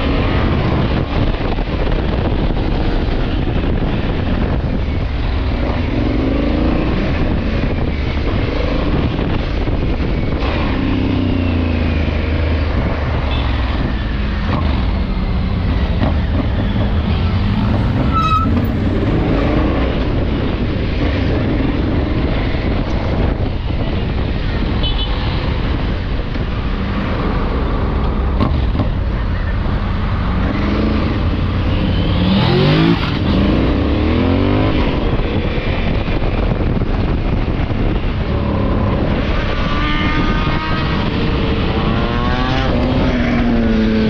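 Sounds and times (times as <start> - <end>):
motorcycle engine revving: 0.0 - 29.2, 30.0 - 44.0
passing traffic: 0.0 - 44.0
wind rushing over microphone: 0.0 - 44.0.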